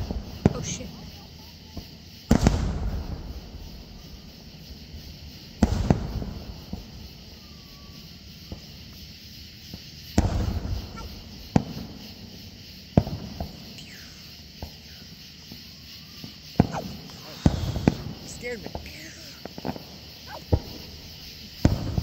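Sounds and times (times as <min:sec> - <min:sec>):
firework shells bursting: 0:00.0 - 0:22.0.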